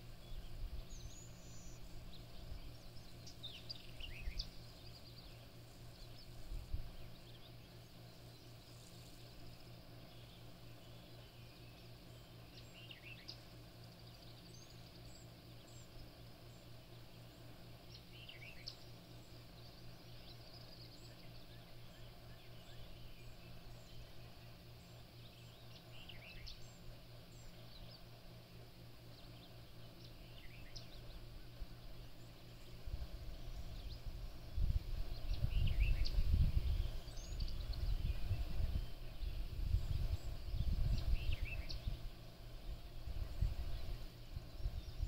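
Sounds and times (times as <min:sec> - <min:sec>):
birds chirping: 0:00.0 - 0:45.0
low hum: 0:00.0 - 0:45.0.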